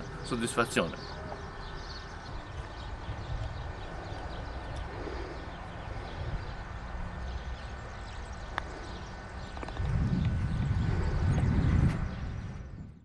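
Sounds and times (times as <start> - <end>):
wind rumble on microphone: 1.1 - 13.0.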